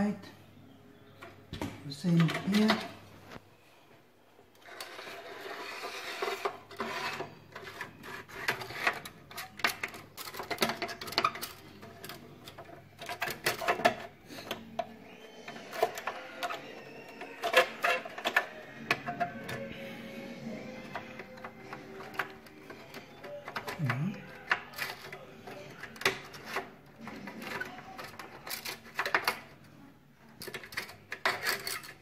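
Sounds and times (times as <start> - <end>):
rubbing and scraping: 4.6 - 29.7, 30.3 - 32.0.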